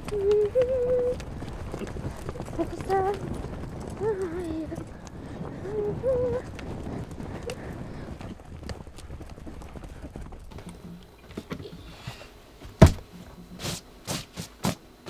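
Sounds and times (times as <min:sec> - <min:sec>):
soft rustle: 0:00.0 - 0:12.8
hooves clicking on hard ground: 0:00.0 - 0:14.9.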